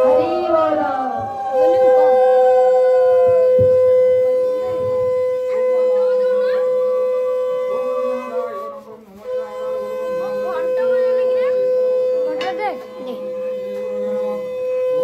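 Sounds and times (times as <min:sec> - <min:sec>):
conch shell blown: 0:00.0 - 0:15.0.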